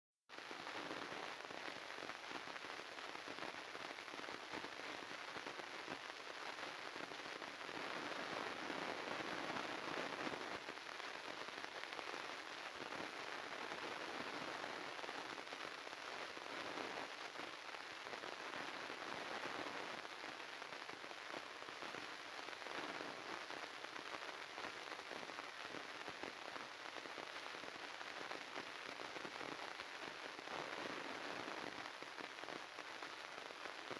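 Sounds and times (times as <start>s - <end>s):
crackling static hiss: 0.3s - 33.9s.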